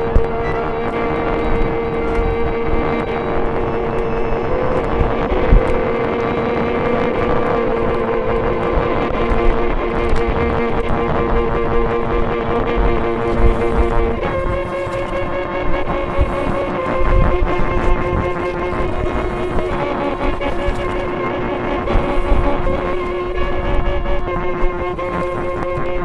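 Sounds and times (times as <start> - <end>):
rumbling crackly low noise: 0.0 - 26.0
violin drone: 0.0 - 26.0.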